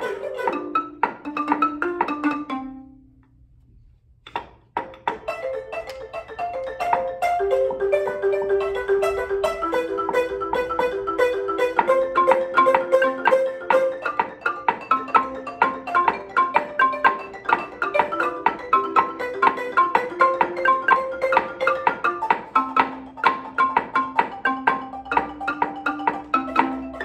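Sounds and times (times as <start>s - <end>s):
marimba melody: 0.0s - 3.4s, 4.3s - 27.0s.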